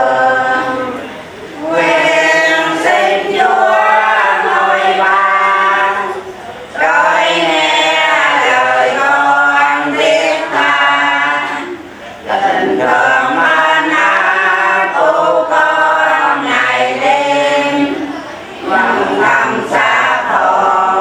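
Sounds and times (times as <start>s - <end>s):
group singing a hymn: 0.0s - 21.0s.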